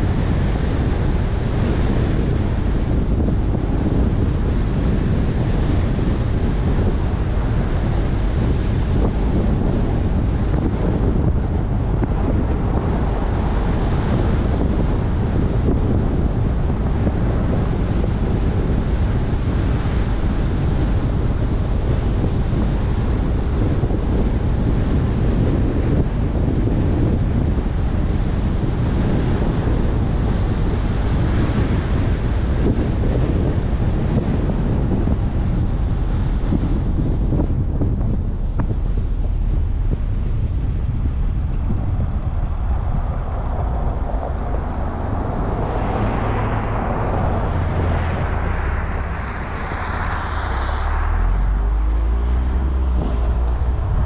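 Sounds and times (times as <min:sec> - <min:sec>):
tyres rumbling on road: 0:00.0 - 0:54.0
wind rush on microphone: 0:00.0 - 0:54.0.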